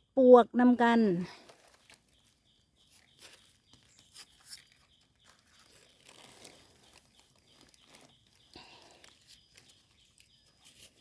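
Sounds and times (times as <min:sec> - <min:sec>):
hands rustling in leaf litter: 0:01.2 - 0:11.0.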